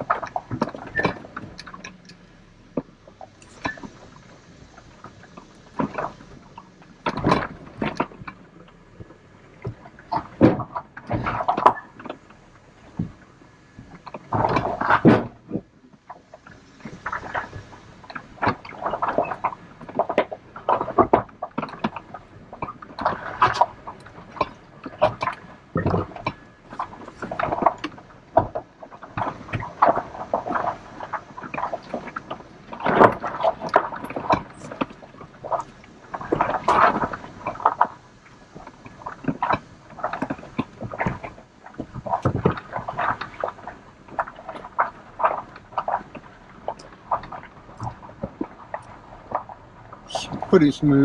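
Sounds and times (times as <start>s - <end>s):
truck cab knocks and rattles: 0.0s - 51.0s.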